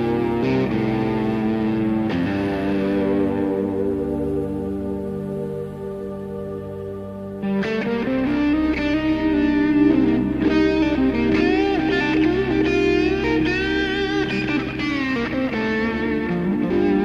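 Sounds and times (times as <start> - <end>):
electric guitar lead: 0.0 - 17.0.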